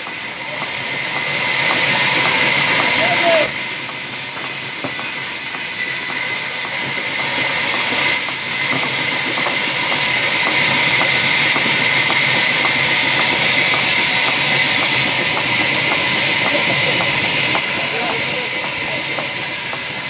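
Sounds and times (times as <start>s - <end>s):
band saw cutting log: 0.0s - 20.0s.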